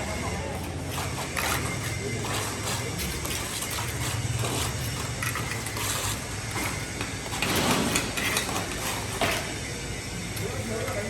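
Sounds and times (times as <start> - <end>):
hand tools clattering and scraping: 0.0 - 9.6.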